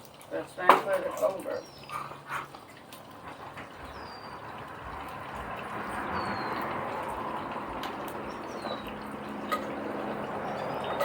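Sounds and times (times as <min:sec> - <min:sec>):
birds chirping: 0:00.4 - 0:02.5, 0:03.3 - 0:11.0.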